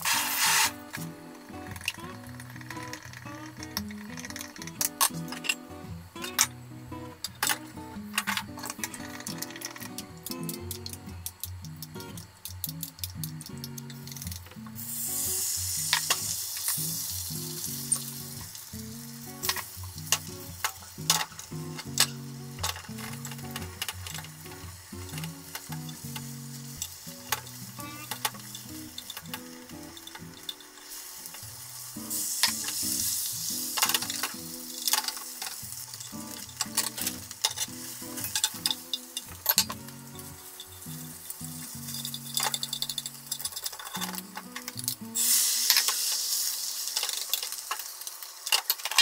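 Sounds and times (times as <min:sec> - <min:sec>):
egg sizzling in a pan: 0:00.0 - 0:49.0
light background music: 0:00.2 - 0:46.8
utensils clicking against pan: 0:01.6 - 0:06.6, 0:07.2 - 0:49.0.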